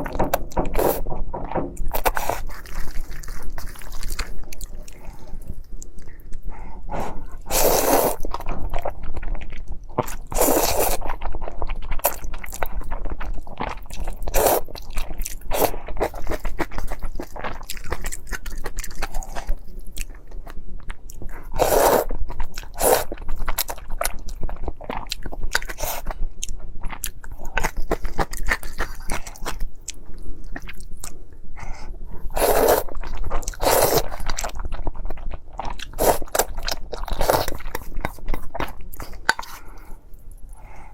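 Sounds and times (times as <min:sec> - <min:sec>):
person chewing and crunching: 0:00.0 - 0:40.9.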